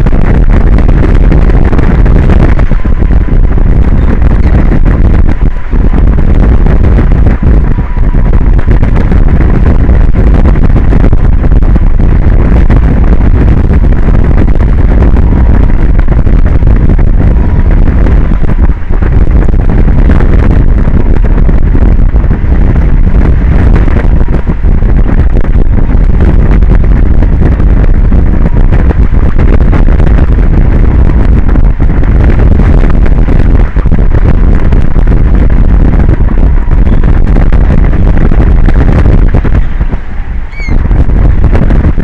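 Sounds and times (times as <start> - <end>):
strong wind on microphone: 0.0 - 42.0.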